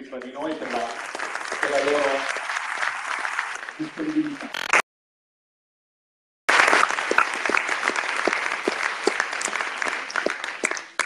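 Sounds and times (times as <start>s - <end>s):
audience applauding: 0.0s - 4.8s, 6.5s - 11.0s.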